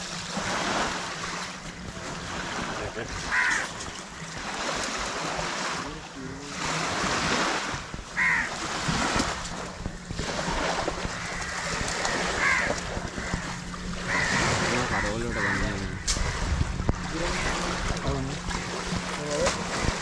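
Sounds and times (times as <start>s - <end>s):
surf: 0.0s - 20.0s
wind: 0.0s - 20.0s.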